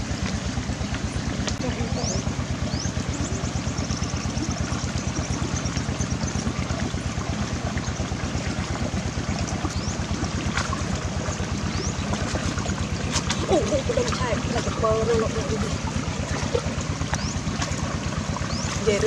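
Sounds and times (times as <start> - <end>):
small engine running: 0.0 - 19.0
water trickling: 0.0 - 19.0.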